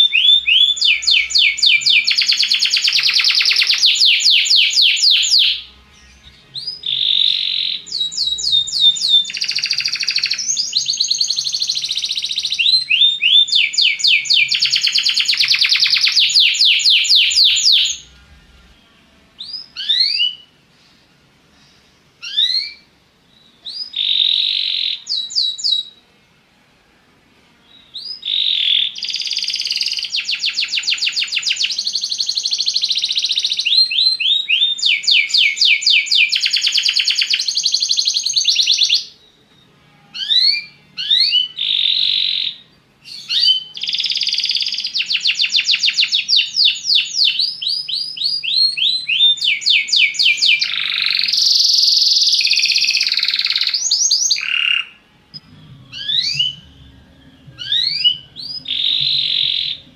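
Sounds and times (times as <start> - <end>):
canary singing trills: 0.0 - 20.6, 22.2 - 26.0, 27.6 - 59.9.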